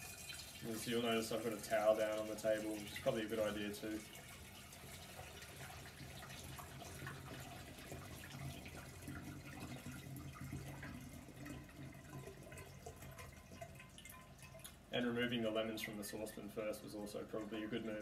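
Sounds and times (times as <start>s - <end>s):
liquid trickling through strainer: 0.0s - 18.0s.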